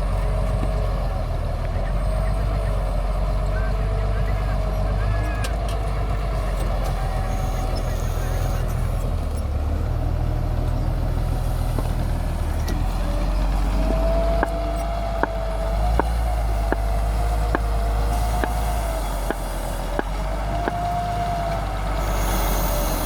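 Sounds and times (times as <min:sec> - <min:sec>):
diesel engine rumbling: 0:00.0 - 0:23.0.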